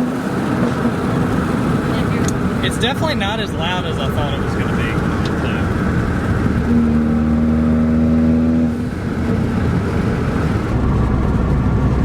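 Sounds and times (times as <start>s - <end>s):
car exhaust: 0.0s - 12.0s.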